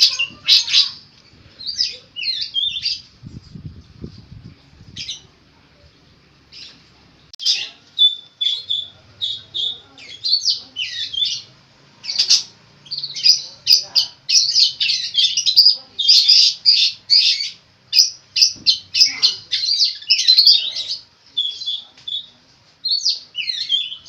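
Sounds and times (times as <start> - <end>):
bird singing harsh phrases: 0.0 - 3.1, 7.4 - 24.0.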